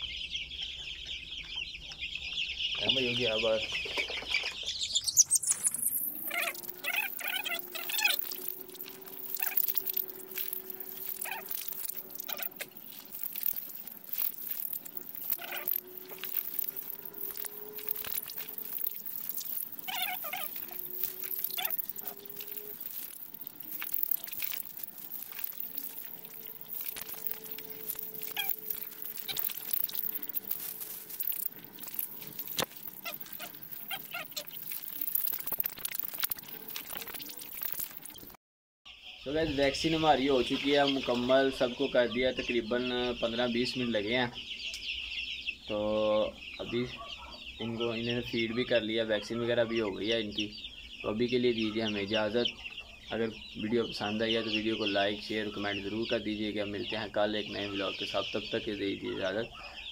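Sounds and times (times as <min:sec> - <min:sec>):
chicks peeping: 0:00.0 - 0:38.3, 0:38.9 - 0:59.9.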